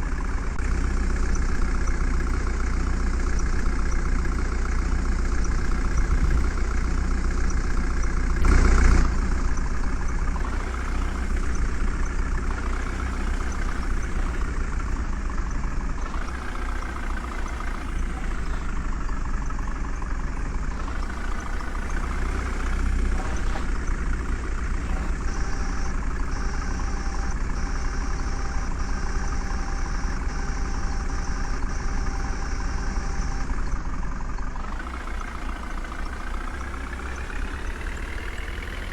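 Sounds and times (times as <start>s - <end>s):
digger diesel engine running: 0.0s - 38.9s.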